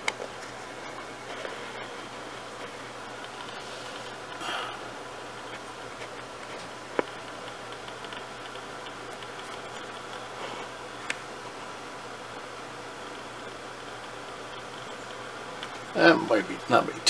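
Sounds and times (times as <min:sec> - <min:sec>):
steady faint hiss: 0:00.0 - 0:17.0.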